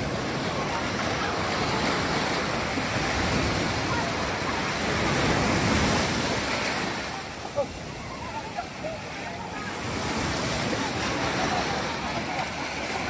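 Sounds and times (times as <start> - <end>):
waves breaking in surf: 0.0 - 13.0.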